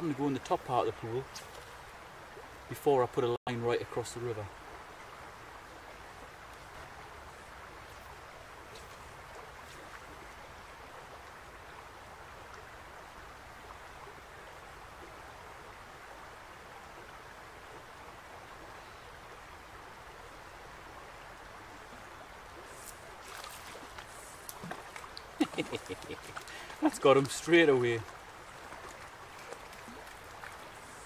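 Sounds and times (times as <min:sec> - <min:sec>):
small river flowing: 0:00.0 - 0:31.0.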